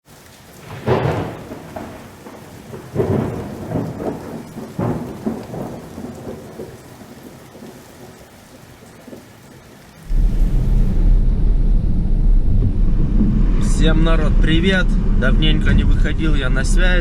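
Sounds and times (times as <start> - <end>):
steady rain: 0.0 - 17.0
thunder rumbling: 0.6 - 9.2, 10.0 - 17.0.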